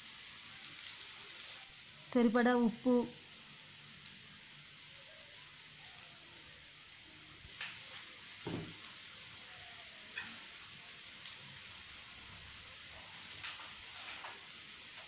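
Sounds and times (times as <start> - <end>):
greens sizzling in a frying pan: 0.0 - 15.0.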